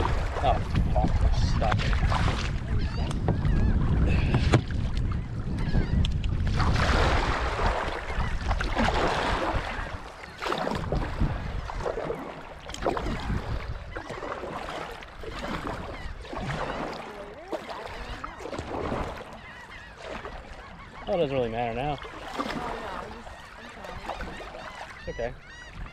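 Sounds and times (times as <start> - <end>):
wind rumbling on microphone: 0.0 - 19.7, 20.6 - 25.9
paddle splashing water: 0.0 - 25.9.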